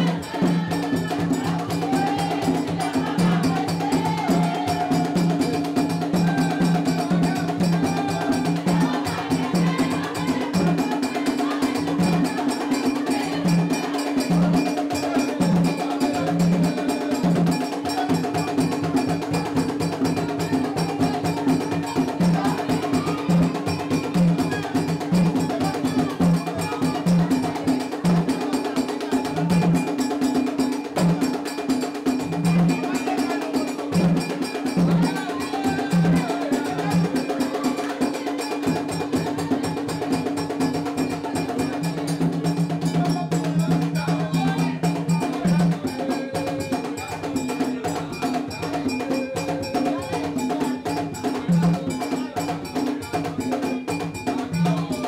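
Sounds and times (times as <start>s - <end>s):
percussion clicks and bell strikes: 0.0s - 55.0s
voices: 0.0s - 55.0s.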